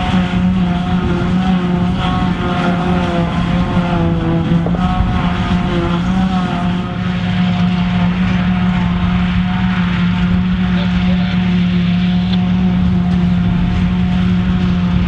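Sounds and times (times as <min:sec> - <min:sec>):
second tractor running: 0:00.0 - 0:15.0.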